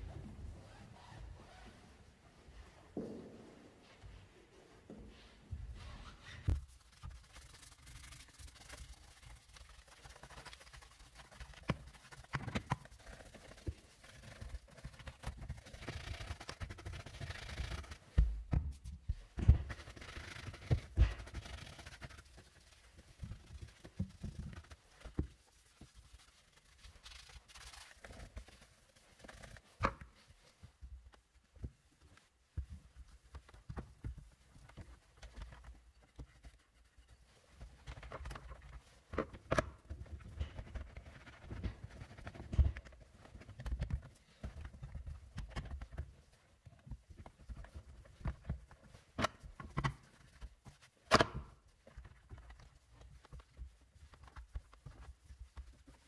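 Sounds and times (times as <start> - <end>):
brushing and wiping plastic: 0.0 - 56.0.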